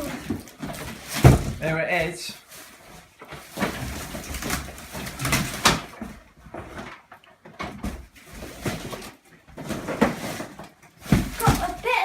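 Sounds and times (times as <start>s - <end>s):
scraping and rustling: 0.0s - 12.0s.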